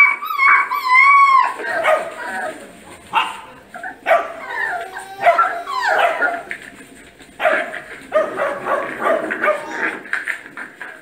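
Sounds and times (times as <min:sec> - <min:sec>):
puppy barking: 0:00.0 - 0:06.8, 0:07.4 - 0:10.1.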